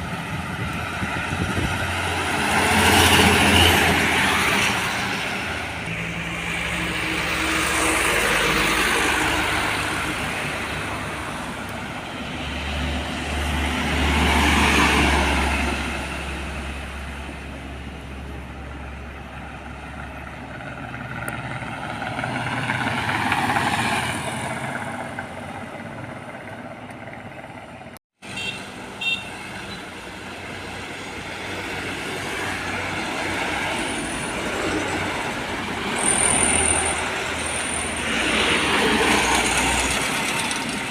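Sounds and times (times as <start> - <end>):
trucks and cars passing: 0.0 - 40.9.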